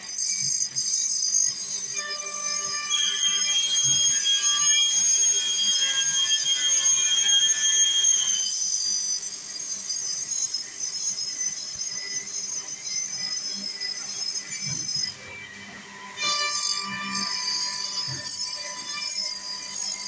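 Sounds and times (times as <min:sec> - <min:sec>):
grinding disc on saw blade: 0:00.0 - 0:20.0.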